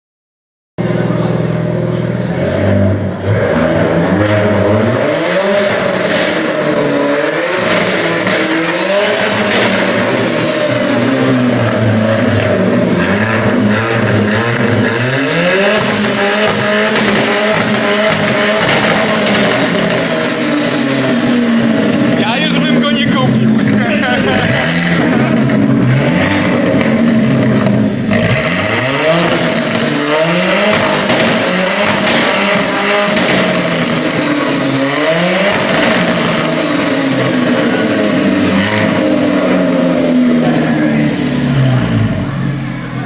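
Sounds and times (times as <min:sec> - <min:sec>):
car engine revving: 0:00.8 - 0:43.0.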